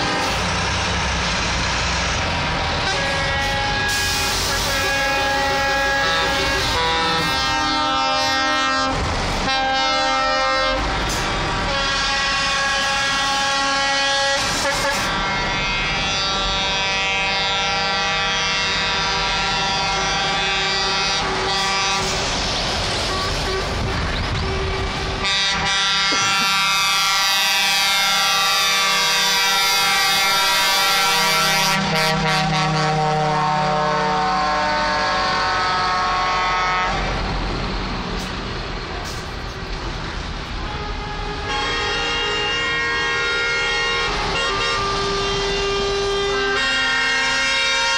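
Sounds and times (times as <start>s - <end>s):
truck engines rumbling: 0.0s - 47.9s
truck air horns: 2.1s - 37.2s, 40.6s - 47.9s.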